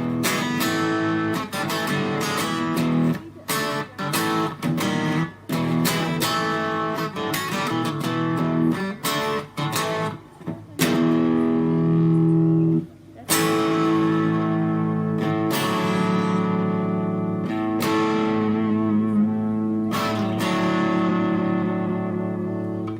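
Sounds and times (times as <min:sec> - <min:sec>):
electric guitar playing: 0:00.0 - 0:22.9.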